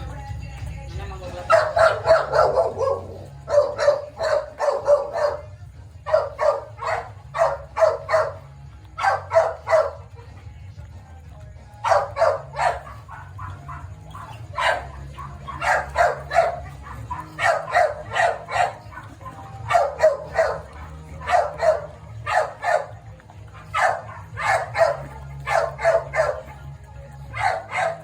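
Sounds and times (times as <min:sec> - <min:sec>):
dog barking: 0:01.2 - 0:10.4, 0:11.6 - 0:28.0.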